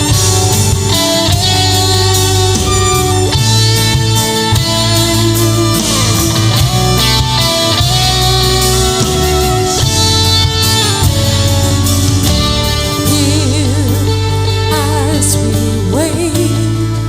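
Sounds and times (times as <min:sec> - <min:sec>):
held wavering melody line: 0:00.0 - 0:14.1
worship band music: 0:00.0 - 0:17.0.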